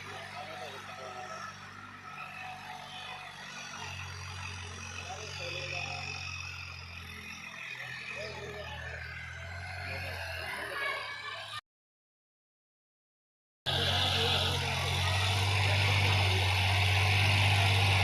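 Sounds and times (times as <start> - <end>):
tractor diesel engine droning: 0.0 - 11.6, 13.7 - 18.0.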